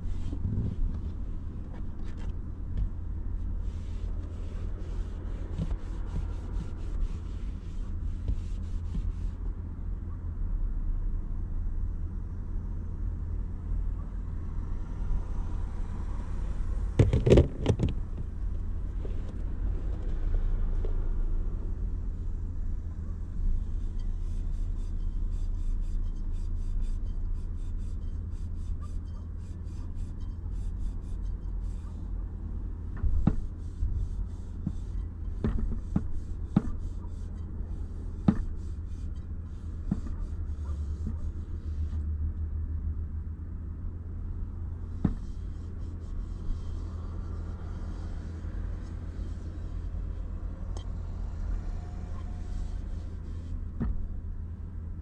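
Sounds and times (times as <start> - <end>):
low rumble inside car: 0.0 - 55.0.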